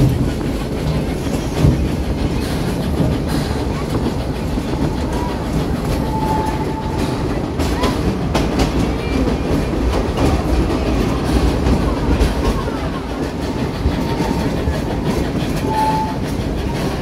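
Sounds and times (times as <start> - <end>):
train rumbling along track: 0.0 - 17.0
wheels clacking on rails: 0.0 - 17.0.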